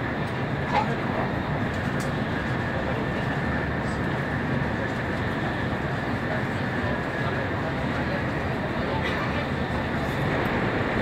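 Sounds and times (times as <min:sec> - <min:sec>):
train rumbling inside passenger car: 0:00.0 - 0:11.0.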